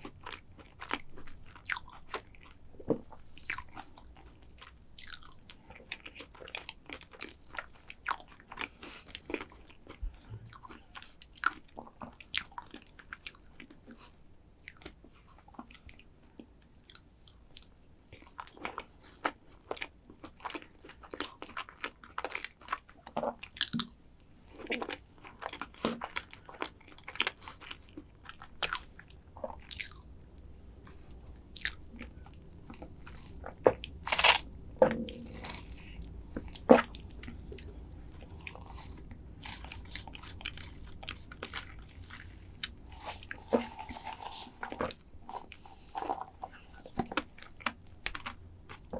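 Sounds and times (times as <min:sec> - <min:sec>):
person chewing crunchy food: 0:00.0 - 0:16.1, 0:16.8 - 0:48.9.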